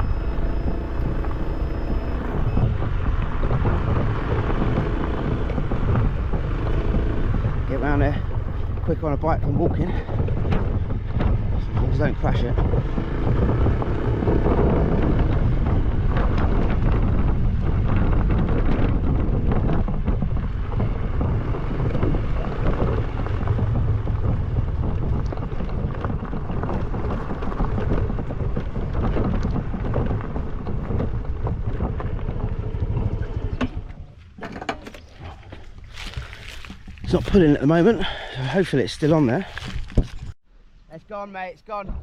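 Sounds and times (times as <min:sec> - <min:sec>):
wind buffeting microphone: 0:00.0 - 0:40.4.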